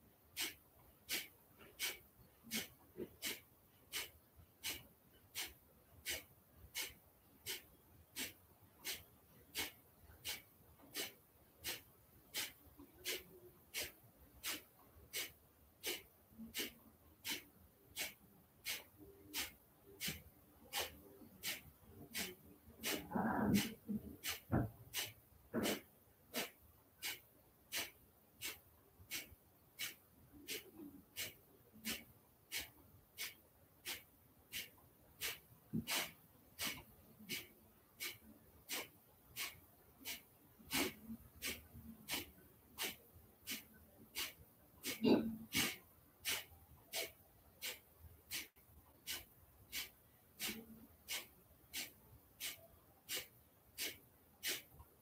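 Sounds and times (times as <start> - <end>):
forceful nasal exhalations: 0.4 - 4.8, 5.4 - 7.6, 8.2 - 54.7.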